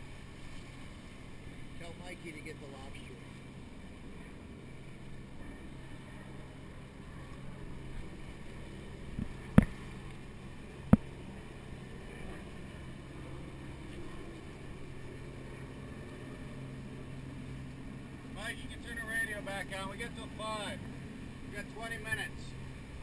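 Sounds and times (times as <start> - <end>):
low steady hum: 0.0 - 23.0
water rushing past boat: 0.0 - 23.0
wind: 0.0 - 23.0.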